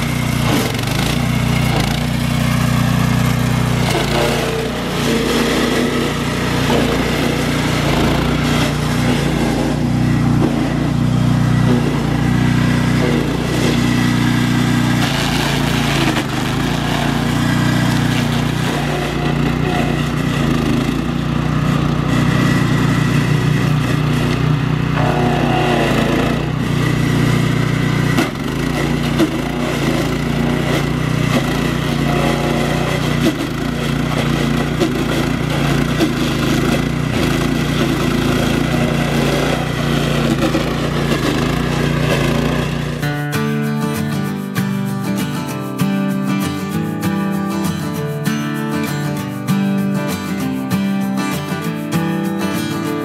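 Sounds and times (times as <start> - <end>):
heavy machine engine running: 0.0 - 43.4.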